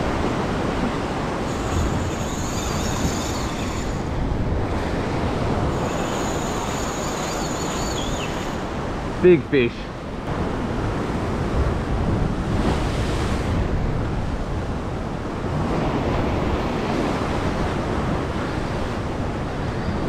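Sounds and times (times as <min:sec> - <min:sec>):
wind buffeting microphone: 0:00.0 - 0:09.2, 0:09.9 - 0:20.0.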